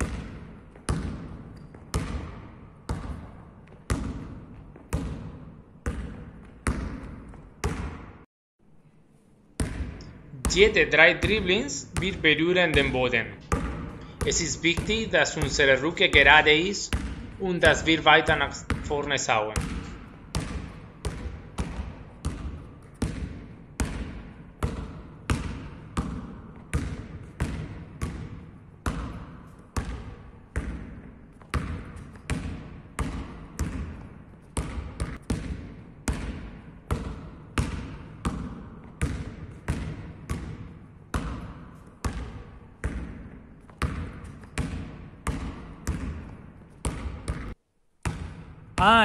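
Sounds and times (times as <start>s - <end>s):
basketball bouncing on hall floor: 0.0s - 8.3s, 9.5s - 49.0s.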